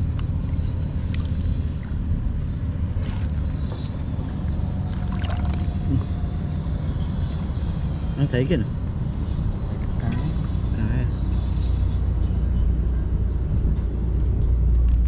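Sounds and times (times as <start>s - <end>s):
low motor-like rumble: 0.0s - 15.0s.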